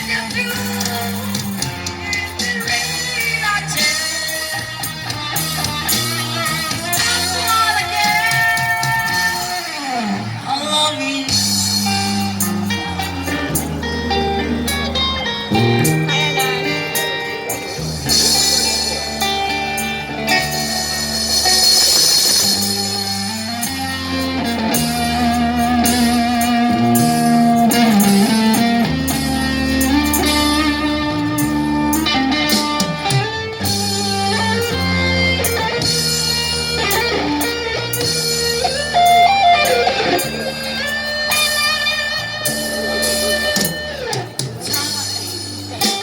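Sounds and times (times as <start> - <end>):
bass: 0.0 - 46.0
lead guitar melody: 0.0 - 46.0
strummed guitar backing: 0.0 - 46.0.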